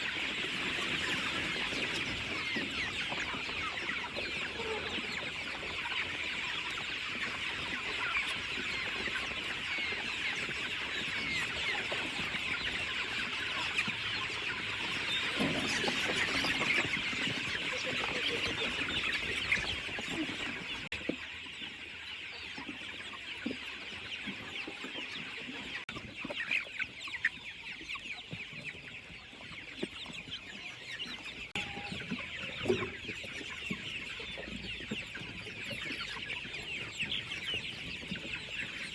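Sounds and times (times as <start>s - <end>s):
chickens peeping and clucking: 0.0s - 38.9s.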